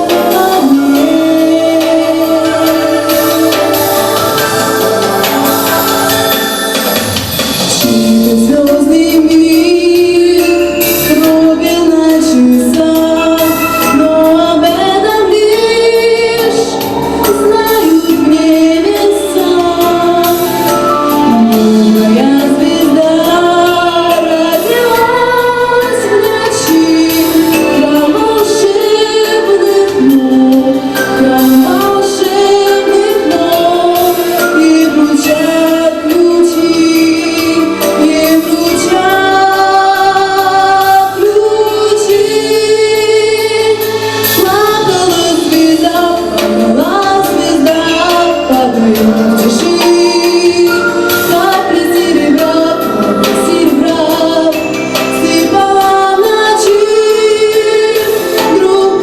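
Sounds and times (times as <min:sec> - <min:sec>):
instrumental accompaniment: 0:00.0 - 0:59.0
women singing: 0:00.0 - 0:59.0.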